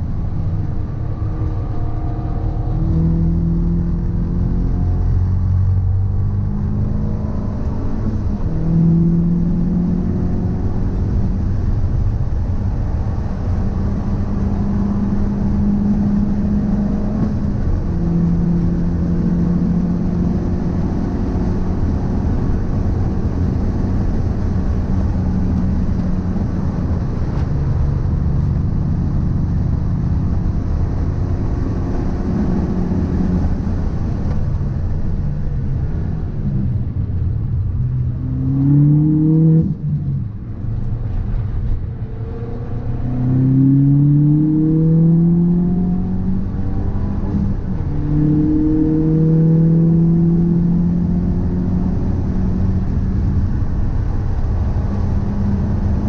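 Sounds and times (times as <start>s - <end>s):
car road and drivetrain rumble: 0.0s - 56.0s.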